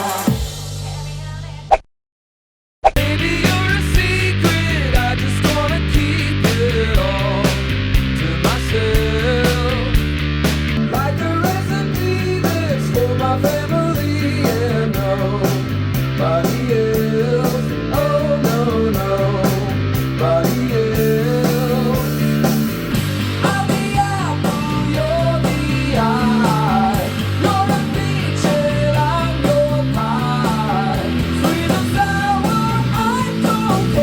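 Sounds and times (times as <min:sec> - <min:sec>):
rock music with guitar: 0:03.0 - 0:34.0.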